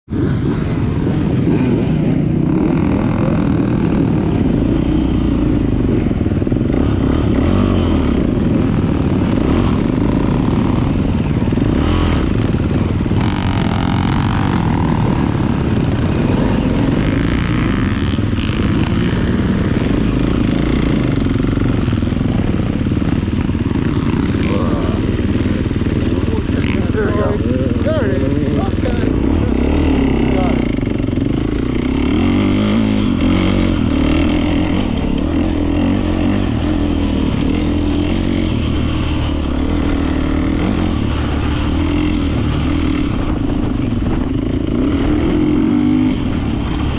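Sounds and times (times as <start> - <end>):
motocross bike engine revving: 0.1 - 46.9.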